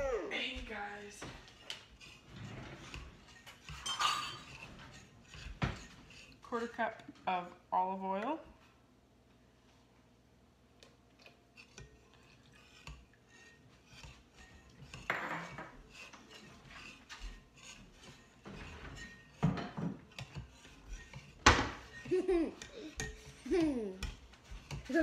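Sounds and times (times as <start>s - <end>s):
whisk scraping in bowl: 0.6s - 6.8s, 11.2s - 25.0s.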